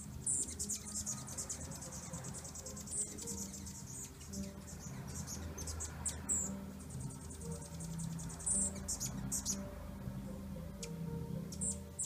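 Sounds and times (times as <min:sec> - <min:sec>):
hummingbirds chirping: 0:00.0 - 0:12.0.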